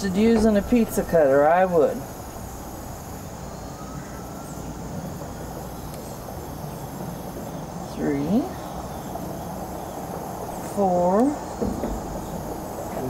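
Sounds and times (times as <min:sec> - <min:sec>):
crickets chirring: 0:00.0 - 0:13.0
steady low rumble: 0:00.0 - 0:13.0.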